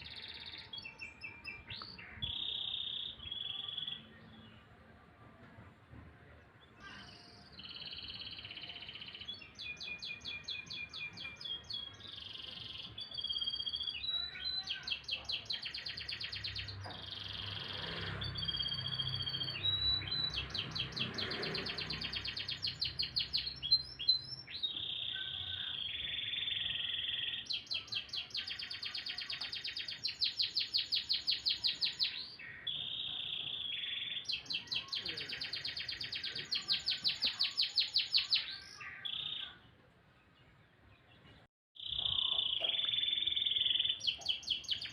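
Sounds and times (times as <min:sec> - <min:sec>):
canary singing: 0:00.0 - 0:04.4, 0:07.0 - 0:39.7, 0:41.8 - 0:44.9.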